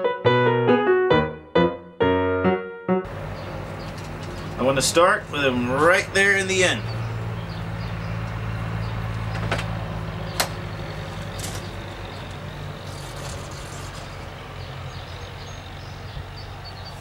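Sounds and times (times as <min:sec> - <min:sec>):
engine idling: 0:03.1 - 0:17.0.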